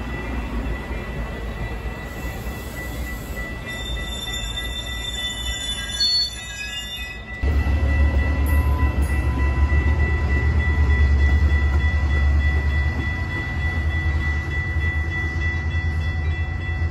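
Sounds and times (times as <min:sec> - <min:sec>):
train cars rolling on track: 0:00.0 - 0:16.9.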